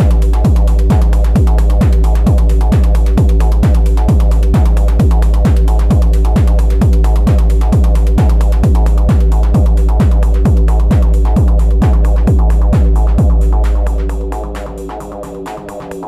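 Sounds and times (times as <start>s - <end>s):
deep bass: 0.0s - 16.0s
drum machine kick drum: 0.0s - 16.0s
hi-hat-like hits: 0.0s - 16.0s.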